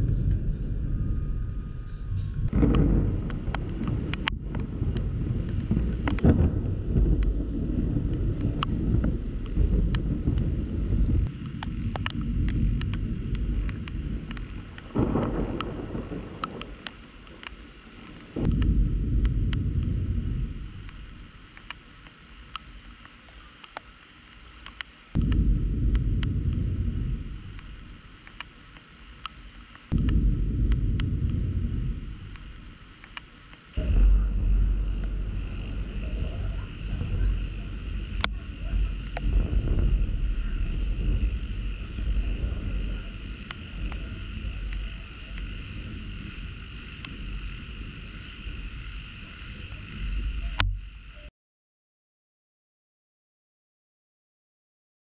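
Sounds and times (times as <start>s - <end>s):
thunder rumbling: 0.0s - 23.0s, 25.1s - 51.2s
steady rain: 2.4s - 51.3s
raindrops ticking on housing: 2.5s - 50.7s.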